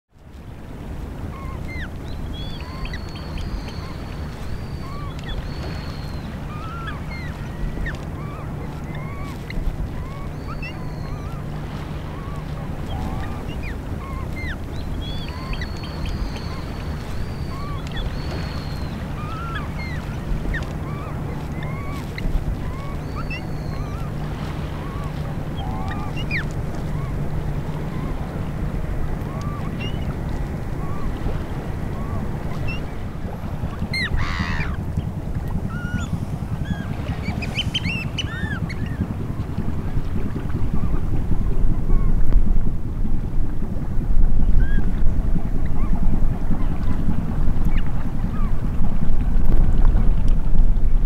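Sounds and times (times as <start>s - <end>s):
water birds calling: 0.2s - 51.0s
water washing on flats: 0.2s - 51.0s
steady low hum: 0.3s - 51.0s.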